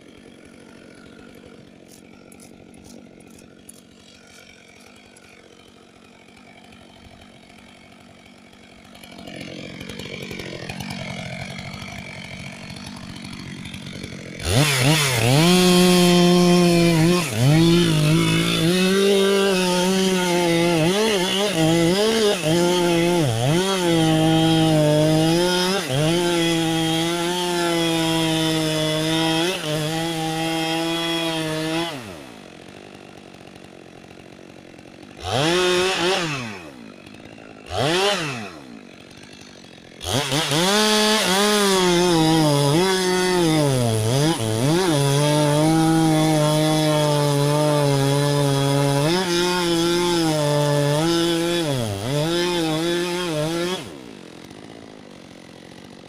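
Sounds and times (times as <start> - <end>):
chainsaw cutting into tree trunk: 0.0 - 56.0.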